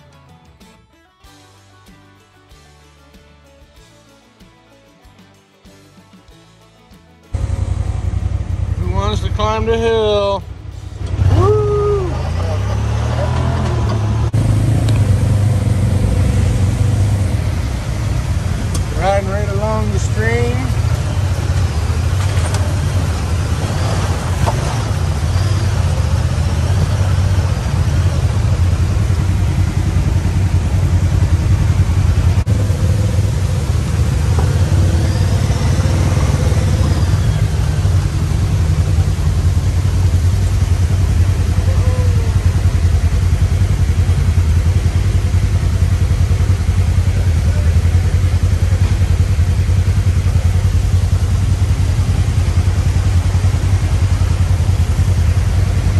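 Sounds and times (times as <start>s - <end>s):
utility vehicle engine droning: 7.3s - 55.9s.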